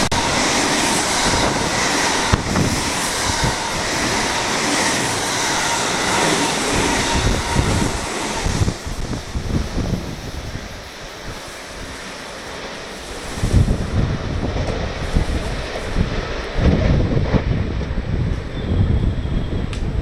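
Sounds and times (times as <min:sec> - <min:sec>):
electric train rushing past: 0:00.0 - 0:20.0.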